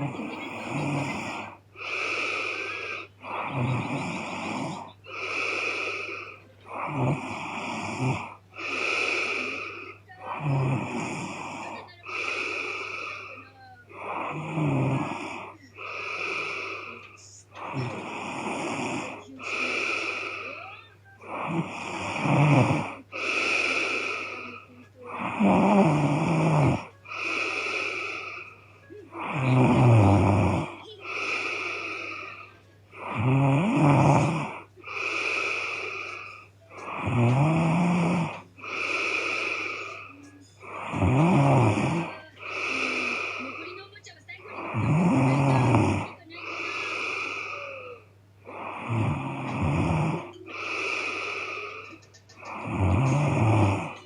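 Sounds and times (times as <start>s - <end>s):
faint low hum: 0.0s - 54.0s
woman snoring heavily: 0.0s - 54.0s.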